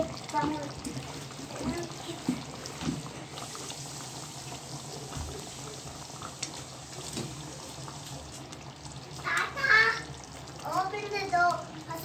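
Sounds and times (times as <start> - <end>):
curry boiling in a pot: 0.0 - 12.0.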